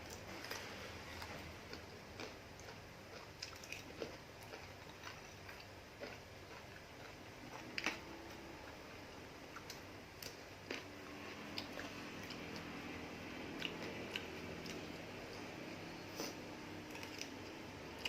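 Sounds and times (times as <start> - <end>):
person chewing food: 0.0 - 8.8, 9.5 - 18.0.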